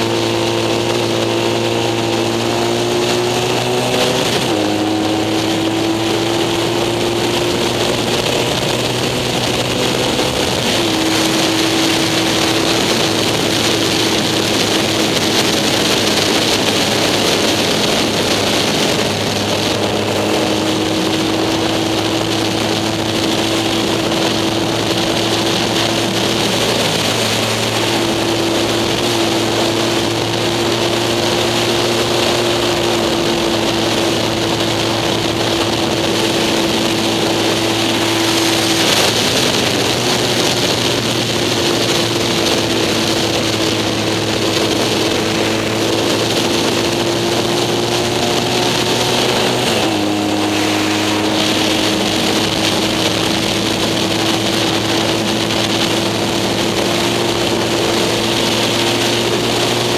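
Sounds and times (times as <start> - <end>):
motorcycle engine running hard: 0.0 - 59.9
wind and road noise: 0.0 - 59.9.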